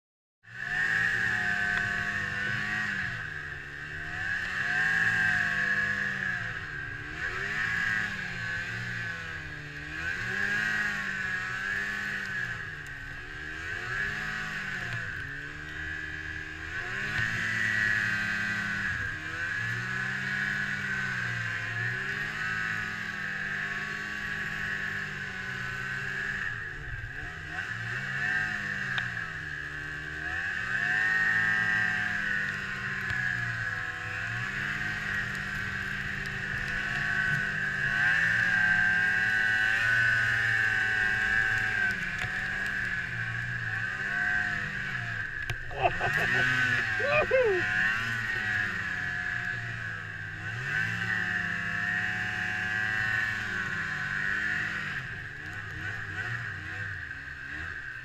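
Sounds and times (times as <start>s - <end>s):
snowmobile engine revving: 0.6s - 58.0s.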